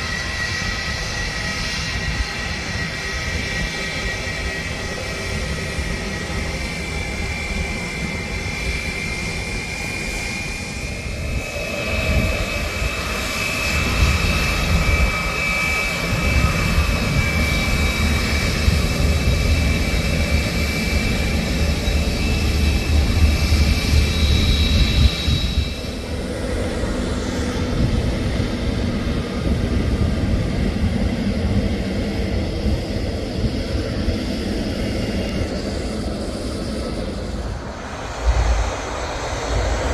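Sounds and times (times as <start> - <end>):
jet airliner passing overhead: 0.0 - 39.9.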